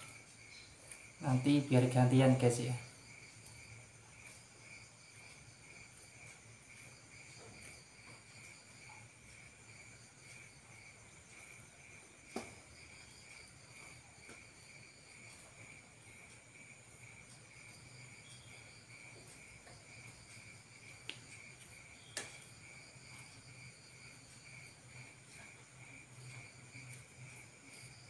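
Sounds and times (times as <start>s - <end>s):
faint cricket chirping: 0.0s - 28.0s.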